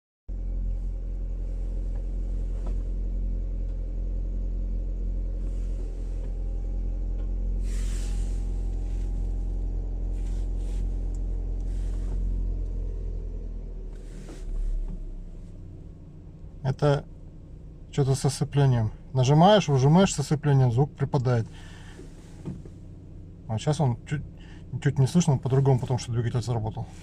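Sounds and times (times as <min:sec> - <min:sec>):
car engine idling: 0:00.3 - 0:27.0.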